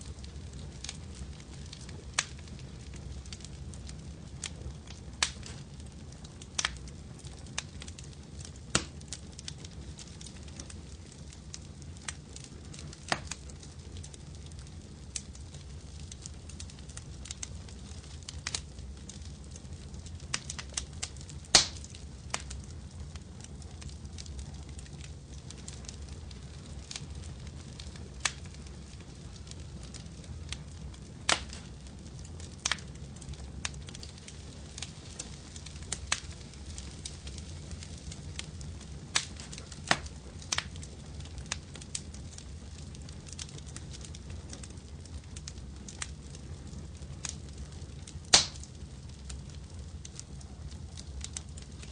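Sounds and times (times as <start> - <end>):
fireplace fire crackling: 0.0 - 51.9.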